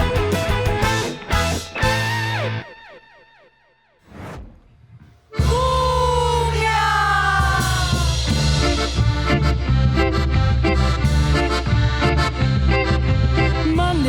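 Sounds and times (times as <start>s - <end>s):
cumbia band playing: 0.0s - 2.7s, 5.3s - 14.0s.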